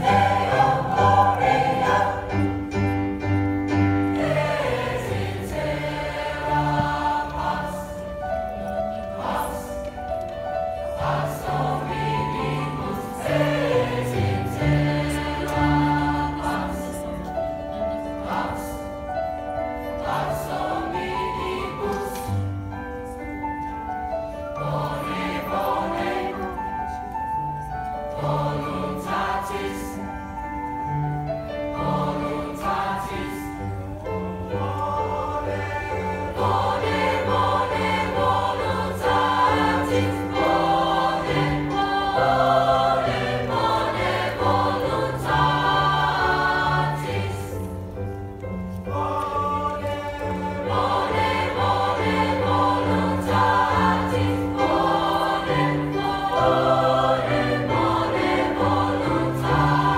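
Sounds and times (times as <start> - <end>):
choir singing: 0.0 - 59.9
piano accompaniment: 0.0 - 59.9.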